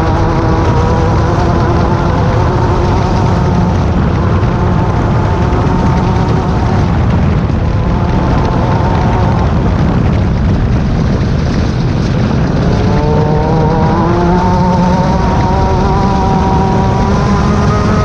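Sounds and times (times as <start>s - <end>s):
buggy engine revving: 0.0s - 18.0s
rough terrain rumble: 0.0s - 18.0s.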